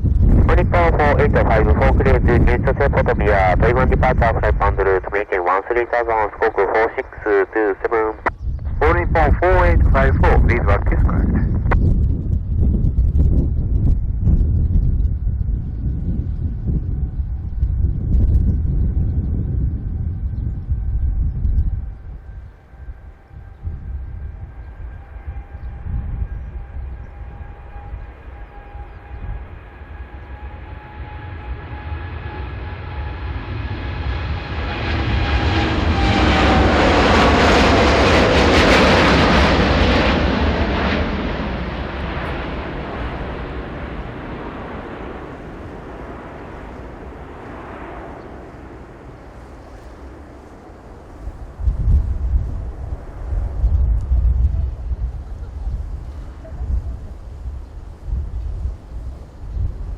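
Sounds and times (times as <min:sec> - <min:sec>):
wind buffeting microphone: 0:00.0 - 0:05.2, 0:08.2 - 0:32.4, 0:33.8 - 0:59.9
jet airliner passing overhead: 0:00.0 - 0:59.9.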